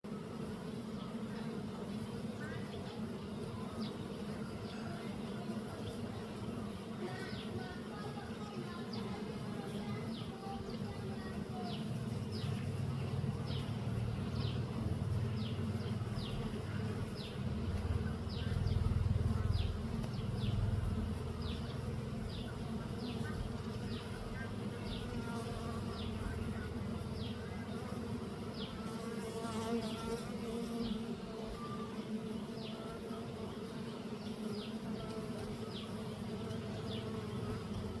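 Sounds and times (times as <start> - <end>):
honeybees buzzing: 0.1 - 38.0.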